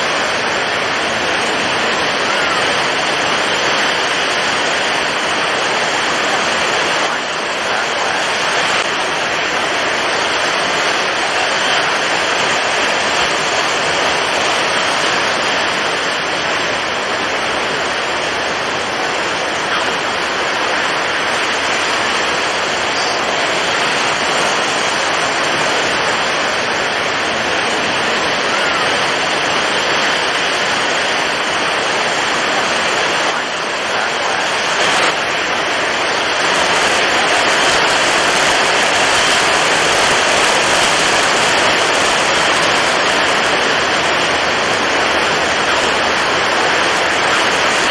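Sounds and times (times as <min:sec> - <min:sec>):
strong wind: 0:00.0 - 0:47.9
waves breaking: 0:00.0 - 0:47.9.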